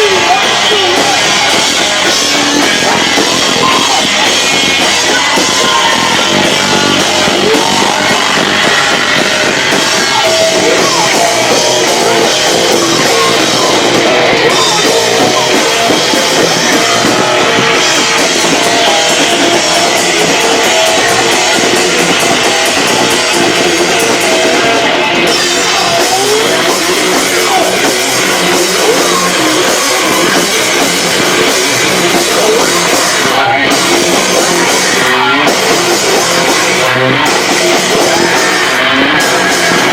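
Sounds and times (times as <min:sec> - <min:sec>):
distorted electric guitar: 0:00.0 - 0:39.9
drum kit: 0:00.0 - 0:39.9
rock band playing: 0:00.0 - 0:39.9.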